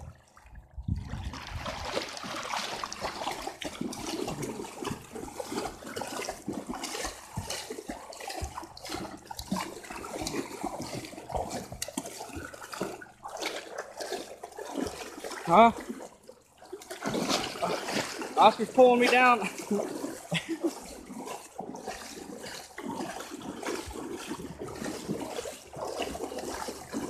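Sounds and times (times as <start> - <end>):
dog splashing through water: 1.0 - 27.0.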